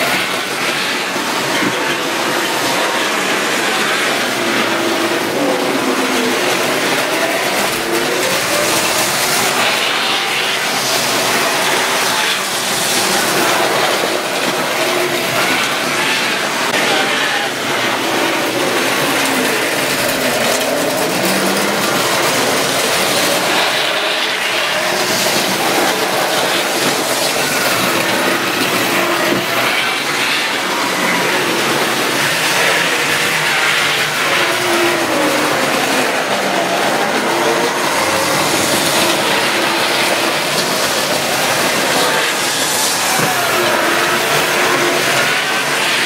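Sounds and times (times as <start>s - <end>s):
model train motor whirring: 0.0s - 46.0s
train wheels rattling on track: 0.0s - 46.0s.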